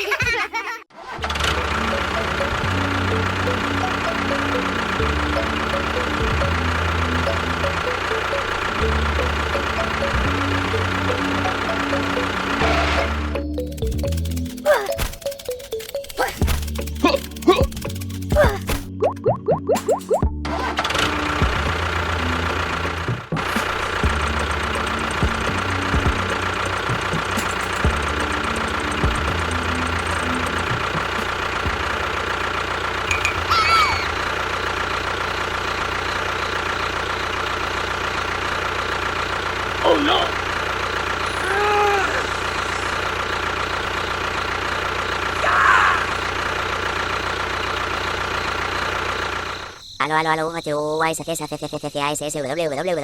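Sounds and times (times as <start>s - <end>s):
machine idling: 0.9s - 19.0s, 19.9s - 50.0s
small motor whining: 1.0s - 18.6s, 20.5s - 49.9s.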